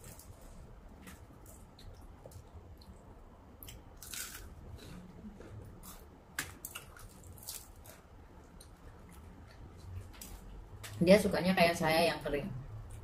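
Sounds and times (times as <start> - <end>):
person chewing crispy food: 0.0 - 10.5.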